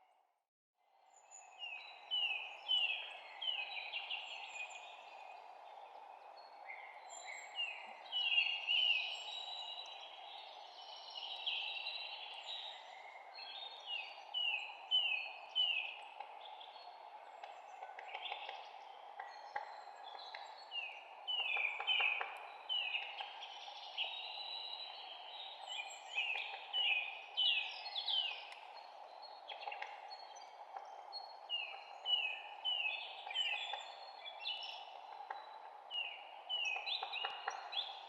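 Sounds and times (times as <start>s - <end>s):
songbirds singing: 0.9s - 38.0s.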